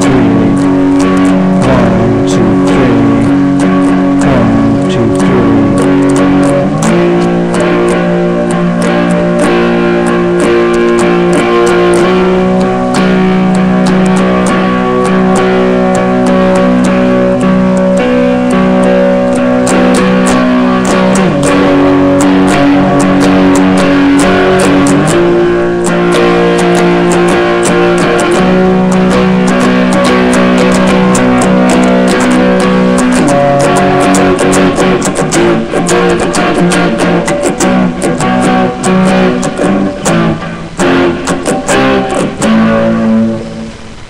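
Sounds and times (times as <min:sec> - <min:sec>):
electric guitar power chords: 0:00.0 - 0:44.0.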